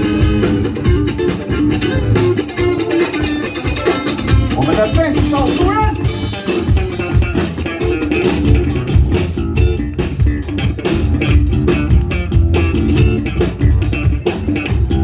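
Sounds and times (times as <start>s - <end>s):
electric bass guitar: 0.0s - 15.0s
live band playing: 0.0s - 15.0s.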